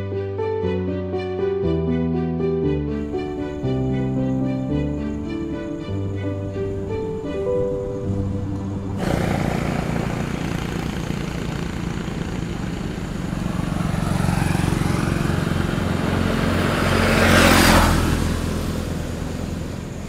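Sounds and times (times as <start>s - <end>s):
motorcycle engines running: 3.0s - 20.0s
vehicle passing close: 3.0s - 20.0s.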